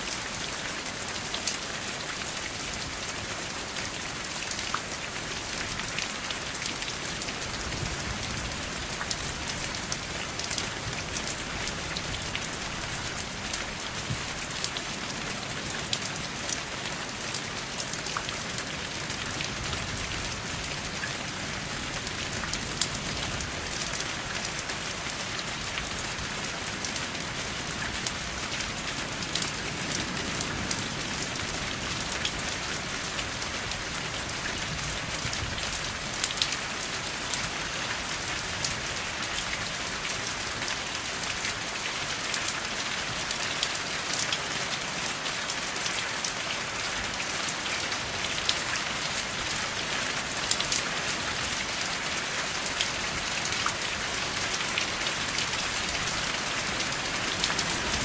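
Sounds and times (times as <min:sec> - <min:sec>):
rain drops ticking on a surface: 0:00.0 - 0:58.0.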